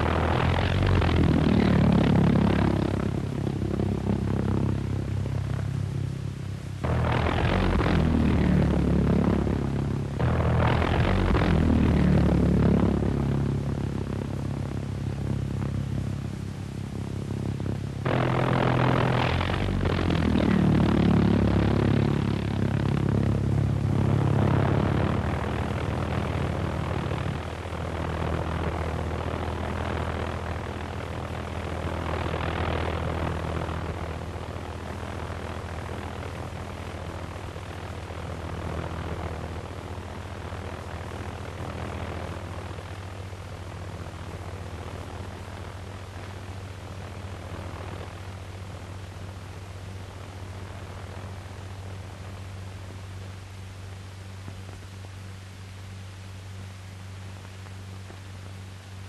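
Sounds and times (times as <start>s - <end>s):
pulsejet droning buzz: 0.0s - 59.0s.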